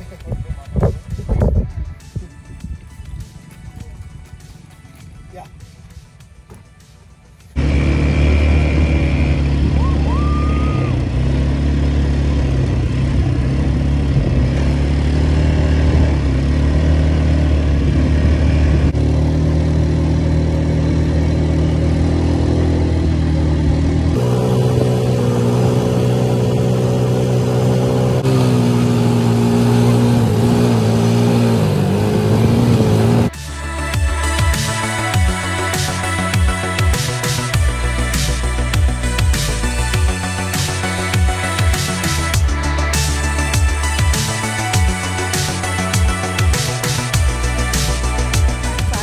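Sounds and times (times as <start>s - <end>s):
quad bike engines running: 7.5s - 49.0s.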